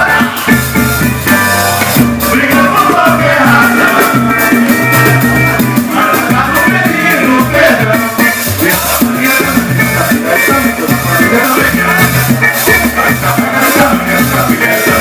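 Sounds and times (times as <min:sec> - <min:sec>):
hand drums: 0:00.0 - 0:15.0
shaken percussion: 0:00.0 - 0:15.0
voices singing: 0:00.0 - 0:15.0.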